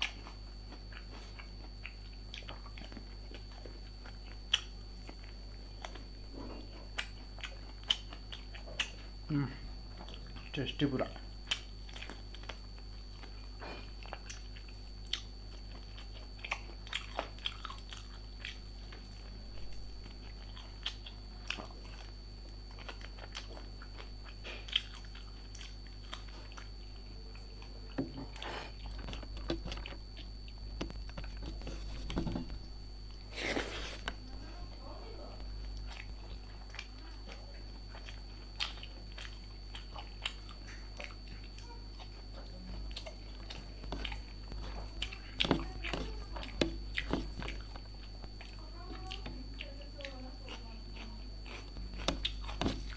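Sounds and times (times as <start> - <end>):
chewing and crunching food: 0.0 - 52.9
faint high whine: 0.0 - 52.9
steady low hum: 0.0 - 52.9.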